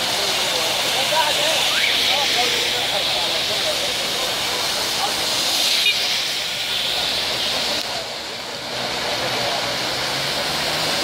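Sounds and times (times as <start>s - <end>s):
heavy rain: 0.0s - 11.0s
tyres swishing through water: 0.0s - 11.0s.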